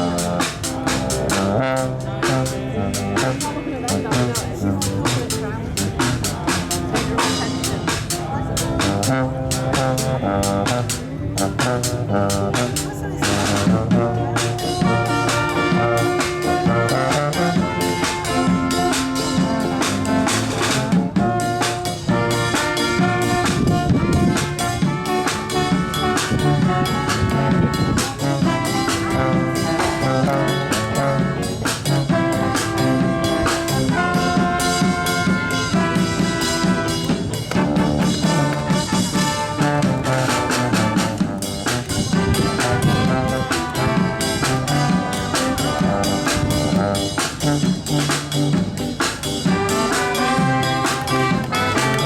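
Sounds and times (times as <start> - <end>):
brass horns playing: 0.0 - 52.0
drum kit beat: 0.0 - 52.0.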